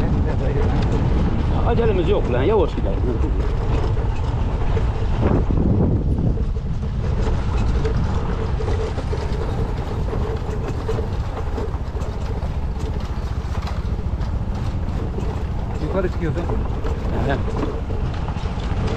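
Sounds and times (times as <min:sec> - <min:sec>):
road noise on dirt track: 0:00.0 - 0:18.9
vehicle engine running: 0:00.0 - 0:18.9.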